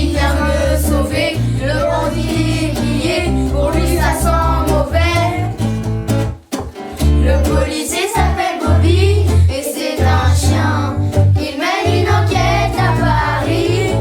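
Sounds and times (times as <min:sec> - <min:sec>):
children singing in unison: 0:00.0 - 0:05.6, 0:07.2 - 0:14.0
backing track with bass and guitar: 0:00.0 - 0:14.0.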